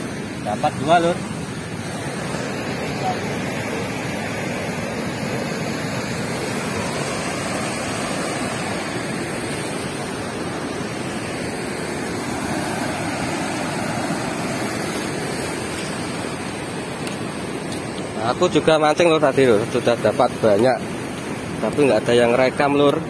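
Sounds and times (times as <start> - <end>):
water rushing through floodgates: 0.0 - 23.0.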